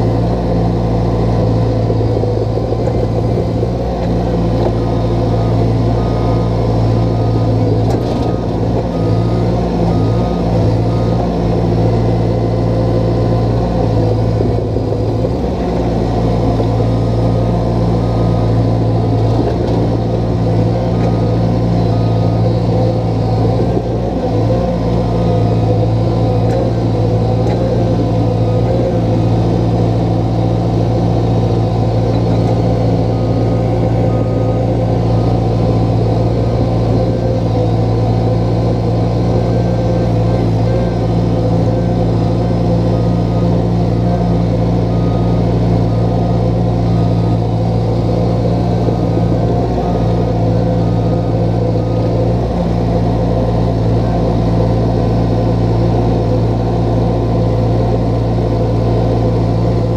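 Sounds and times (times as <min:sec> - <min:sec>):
digging machine engine running: 0:00.0 - 0:59.9.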